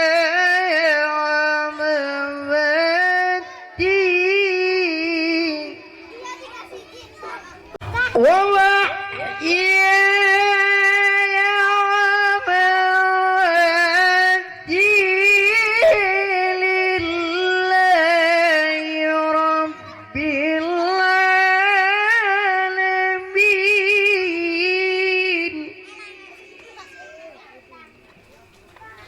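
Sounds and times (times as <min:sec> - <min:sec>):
person chanting recitation: 0:00.0 - 0:06.1, 0:07.8 - 0:29.0.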